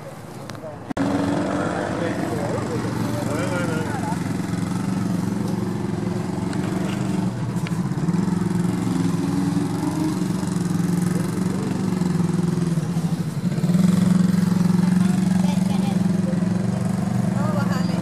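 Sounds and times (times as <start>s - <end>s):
car engine running: 0.9s - 18.0s.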